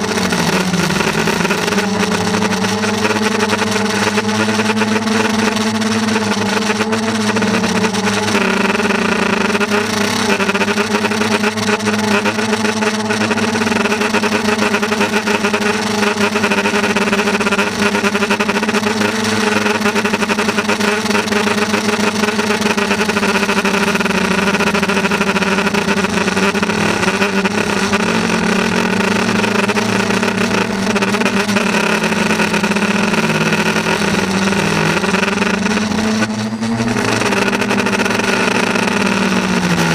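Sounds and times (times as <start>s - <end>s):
loud motor drone: 0.0s - 39.9s.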